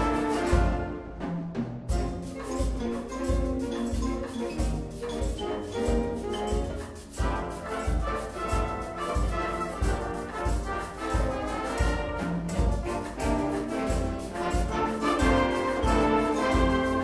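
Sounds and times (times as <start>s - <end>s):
wind band playing: 0.0s - 17.0s.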